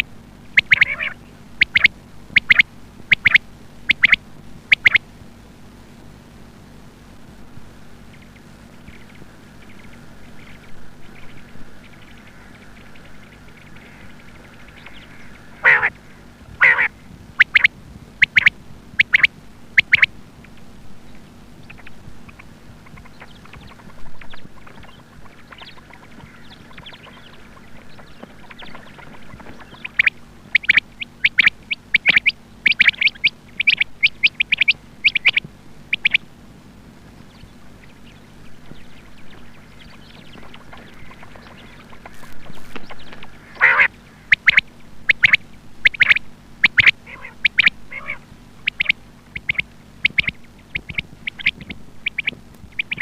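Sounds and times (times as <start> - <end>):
quail calling: 0.0 - 5.0, 7.8 - 20.6, 21.6 - 36.3, 37.1 - 53.0
faint steady hum: 0.0 - 53.0.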